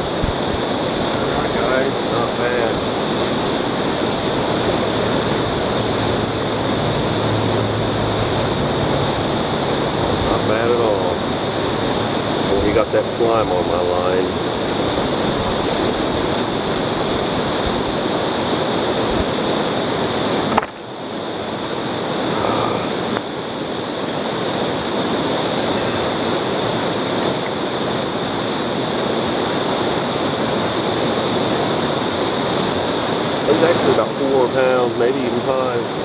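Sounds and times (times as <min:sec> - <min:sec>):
river water rushing: 0:00.0 - 0:36.0.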